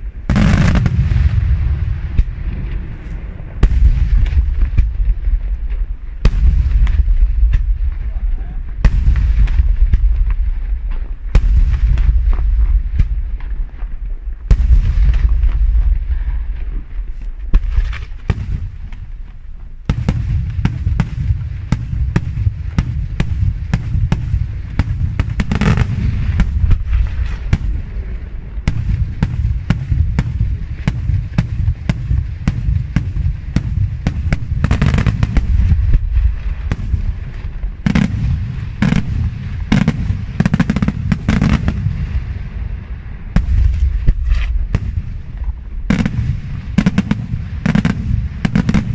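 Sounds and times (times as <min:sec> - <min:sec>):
fireworks bangs and crackling: 0:00.0 - 0:48.9
heavy low booming: 0:00.0 - 0:48.9.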